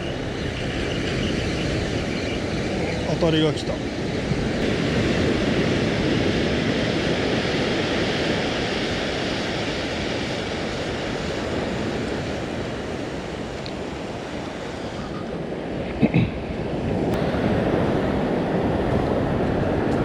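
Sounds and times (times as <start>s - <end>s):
surf washing on sandy beach: 0.0s - 20.0s.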